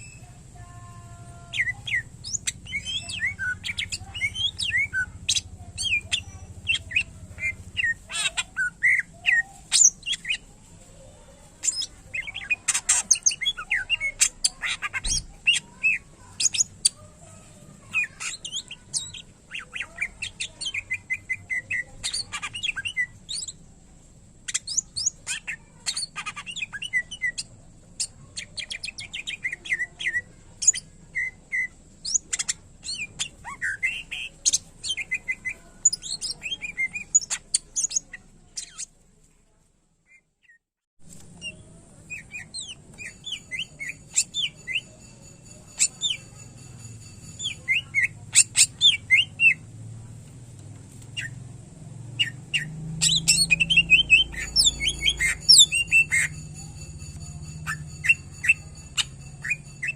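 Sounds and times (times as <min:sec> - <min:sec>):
bird singing varied chirps: 0:00.0 - 0:10.6, 0:11.6 - 0:23.6, 0:24.5 - 0:39.0, 0:40.1 - 0:49.7, 0:51.1 - 0:59.9.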